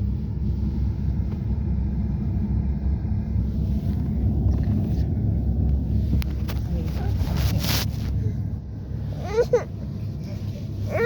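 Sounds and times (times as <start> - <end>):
car driving rumble from inside: 0.0 - 11.0.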